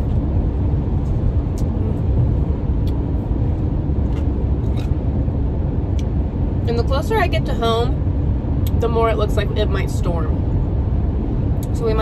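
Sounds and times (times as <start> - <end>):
road and engine noise in car: 0.0 - 12.0.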